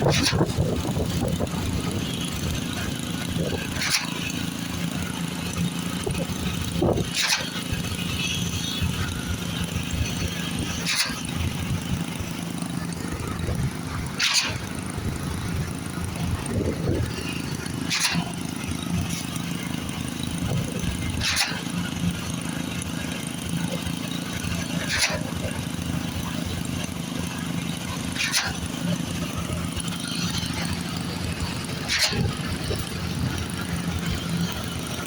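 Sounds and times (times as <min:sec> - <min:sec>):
concrete pump running: 0:00.0 - 0:35.0.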